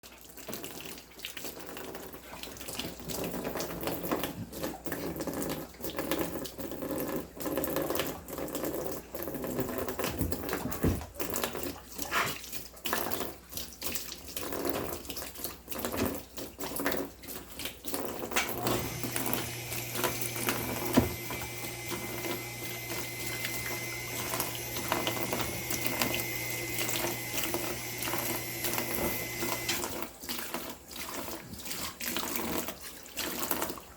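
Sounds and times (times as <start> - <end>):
dog drinking from water stream: 0.0 - 33.9
water splashing from a tap: 0.0 - 33.9.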